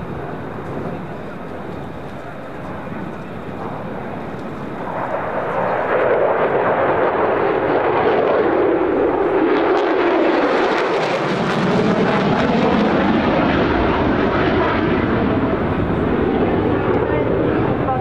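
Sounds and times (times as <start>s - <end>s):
fighter jet engine roar: 0.0s - 18.0s.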